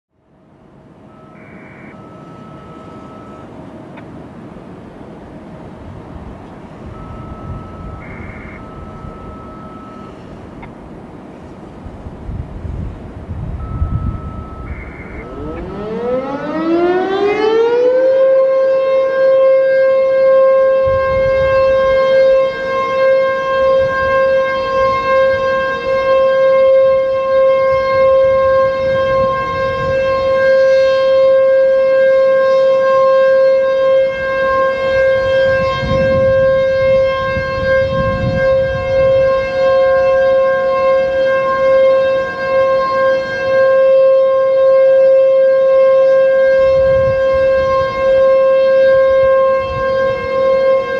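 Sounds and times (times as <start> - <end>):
fainter second siren: 0.2 - 50.9
warning siren wailing: 0.3 - 50.9.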